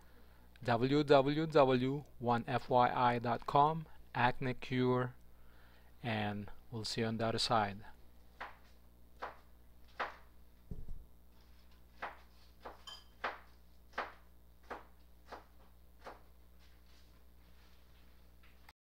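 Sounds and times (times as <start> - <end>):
faint electrical hum: 0.0 - 18.7.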